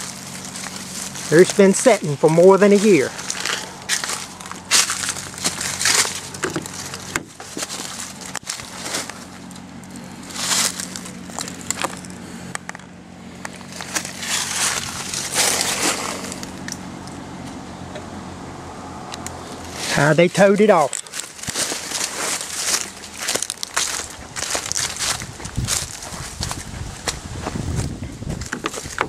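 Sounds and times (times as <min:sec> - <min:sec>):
crackling and rustling: 0:00.0 - 0:17.6, 0:19.1 - 0:29.0.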